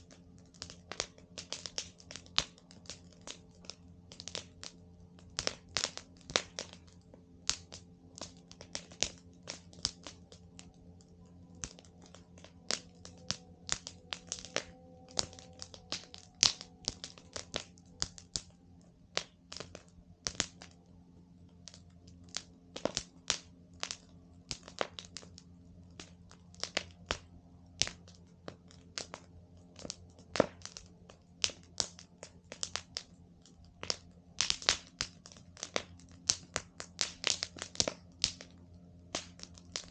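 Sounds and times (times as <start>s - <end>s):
campfire crackling and popping: 0.0s - 39.9s
faint low hum: 0.0s - 39.9s.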